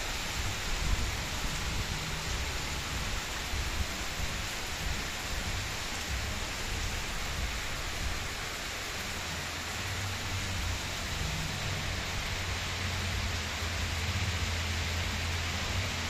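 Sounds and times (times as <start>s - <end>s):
heavy rain splashing: 0.0s - 16.0s.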